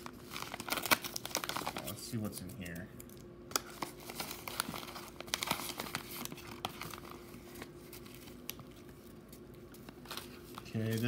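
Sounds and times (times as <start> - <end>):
paper crinkling: 0.0 - 11.0.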